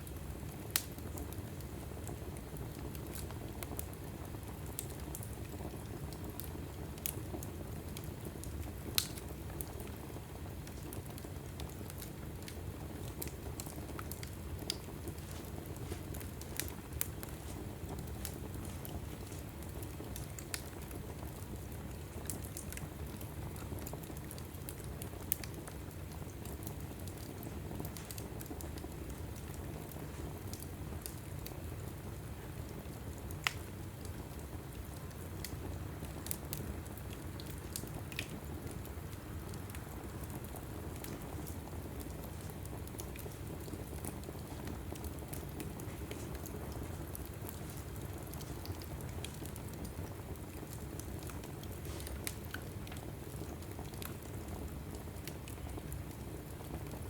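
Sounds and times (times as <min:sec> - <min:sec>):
fire crackling and popping: 0:00.0 - 0:57.0
fire rumbling: 0:00.0 - 0:57.0.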